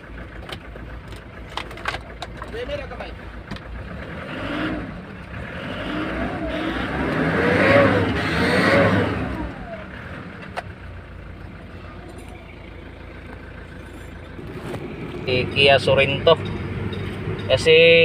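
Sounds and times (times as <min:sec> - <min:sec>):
diesel engine revving and idling: 0:00.0 - 0:18.0.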